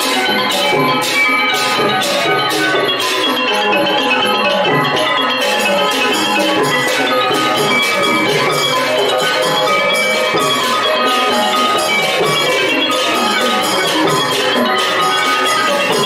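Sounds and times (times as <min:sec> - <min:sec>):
xylophones and gong circles: 0:00.0 - 0:16.0.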